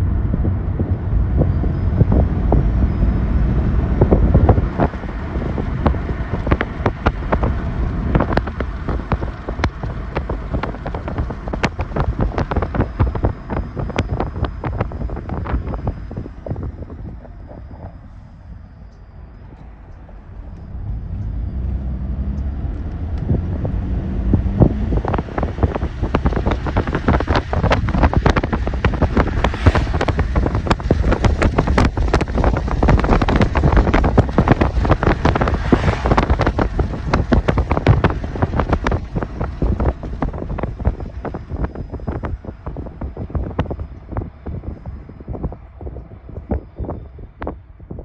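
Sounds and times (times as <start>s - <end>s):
diesel locomotive engine drone: 0.0s - 48.0s
wind buffeting microphone: 0.0s - 48.0s.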